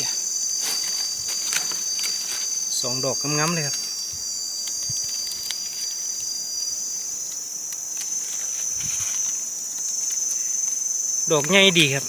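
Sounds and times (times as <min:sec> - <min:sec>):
high-pitched insect drone: 0:00.0 - 0:12.0
lower insect tone: 0:00.0 - 0:12.0.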